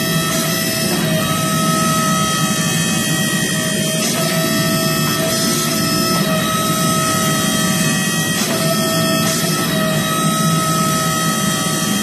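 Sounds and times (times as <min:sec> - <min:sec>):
hydraulic press drone with whine: 0:00.0 - 0:12.0.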